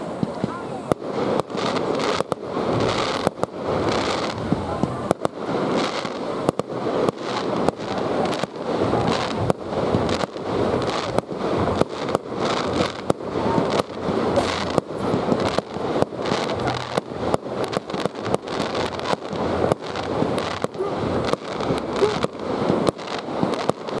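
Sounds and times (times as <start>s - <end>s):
crackling rumble: 0.0s - 24.0s
fireworks bangs: 0.0s - 24.0s.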